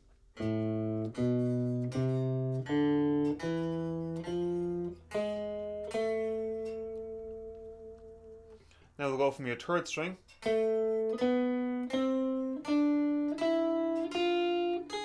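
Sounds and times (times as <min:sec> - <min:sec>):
guitar playing a scale: 0:00.0 - 0:15.0.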